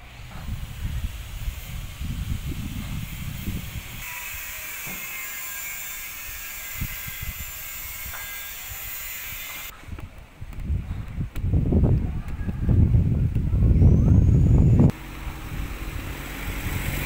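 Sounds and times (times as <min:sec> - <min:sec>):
wind buffeting microphone: 0:00.0 - 0:04.5, 0:06.1 - 0:17.0.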